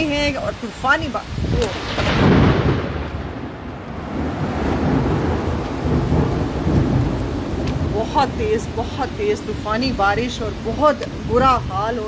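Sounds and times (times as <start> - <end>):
heavy rain hissing: 0.0 - 12.0
thunder rumble: 0.0 - 12.0.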